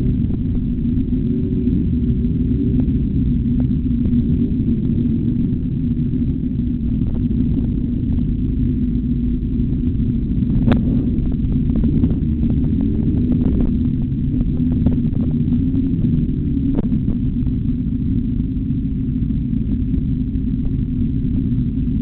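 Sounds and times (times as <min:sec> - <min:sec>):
low rushing noise: 0:00.0 - 0:22.0
motorcycle engine running hard: 0:00.0 - 0:22.0.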